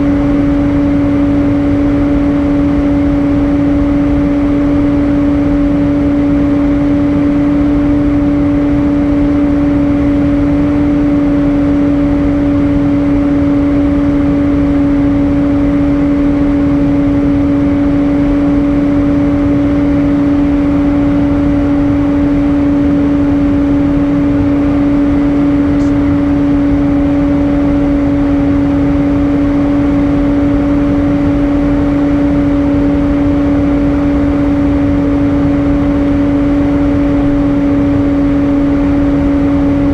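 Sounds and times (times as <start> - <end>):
airplane cabin engine drone: 0.0 - 39.9
constant low hum: 0.0 - 39.9.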